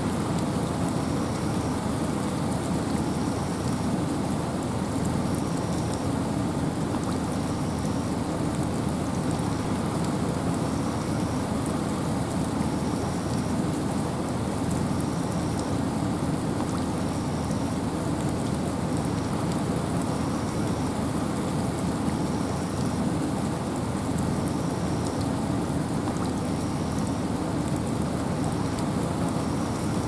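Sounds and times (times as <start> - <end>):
steady rain falling: 0.0 - 30.0
wind: 0.0 - 30.0.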